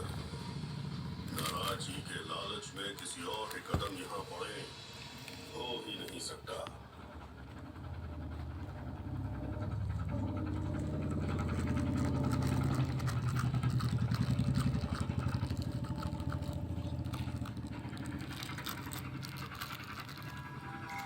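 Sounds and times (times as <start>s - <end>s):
vehicle engine pulsing hum: 0.0s - 2.8s, 6.8s - 21.0s.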